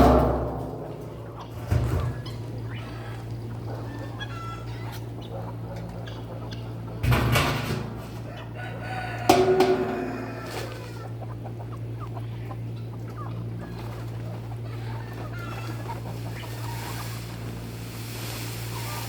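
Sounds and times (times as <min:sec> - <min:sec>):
chickens calling: 0:00.0 - 0:19.0
steady low hum: 0:00.0 - 0:19.0.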